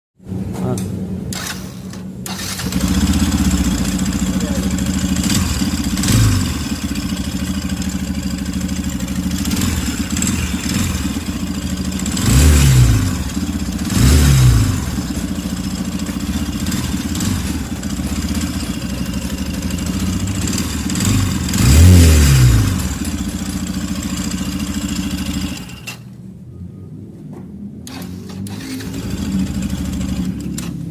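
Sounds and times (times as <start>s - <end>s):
motorcycle engine idling and revving: 0.2s - 30.9s.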